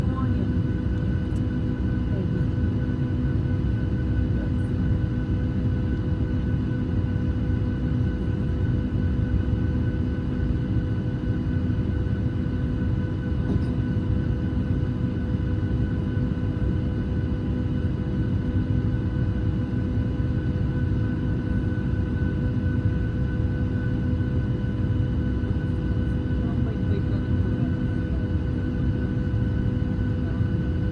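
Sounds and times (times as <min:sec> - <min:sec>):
airliner cabin rumble: 0:00.0 - 0:30.9.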